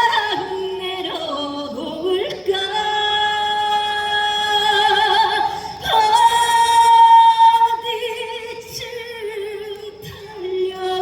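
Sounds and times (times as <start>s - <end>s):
woman singing with vibrato: 0.0s - 11.0s.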